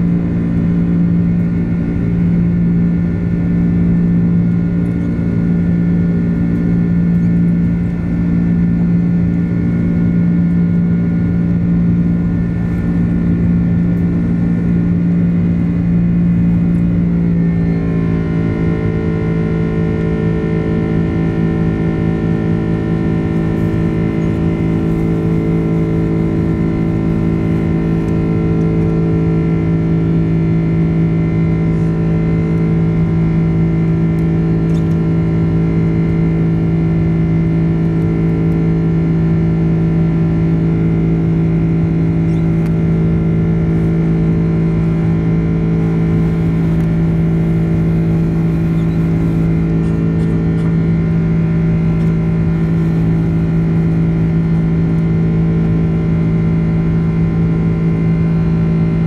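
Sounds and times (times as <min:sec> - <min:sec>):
jet engine drone: 0:00.0 - 0:59.0.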